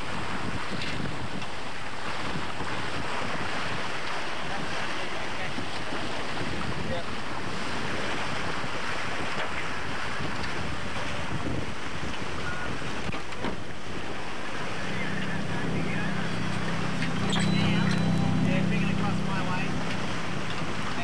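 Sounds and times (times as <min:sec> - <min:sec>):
wind buffeting microphone: 0:00.0 - 0:17.4
water rushing along hulls: 0:00.0 - 0:21.0.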